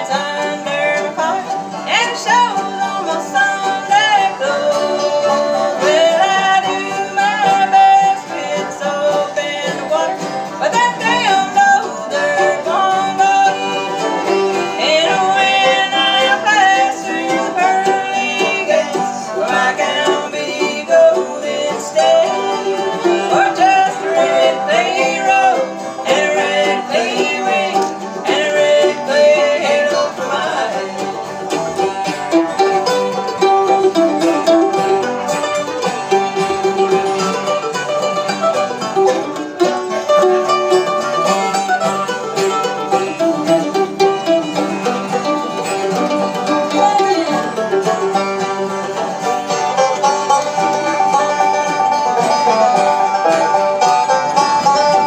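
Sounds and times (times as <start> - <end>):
acoustic guitar: 0.0 - 55.0
banjo: 0.0 - 55.0
fiddle: 0.0 - 55.0
mandolin: 0.0 - 55.0.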